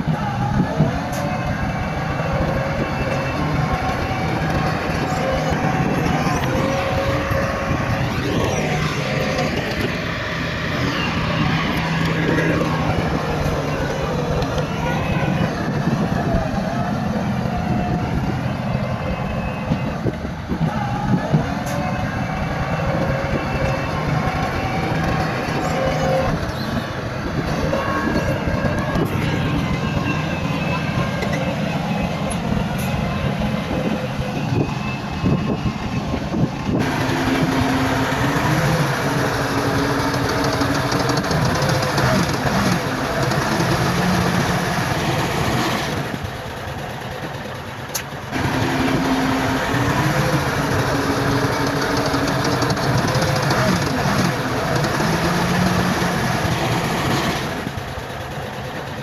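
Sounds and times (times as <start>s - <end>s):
heavy diesel machinery rattling: 0.0s - 59.0s
steady low engine tone: 0.0s - 59.0s.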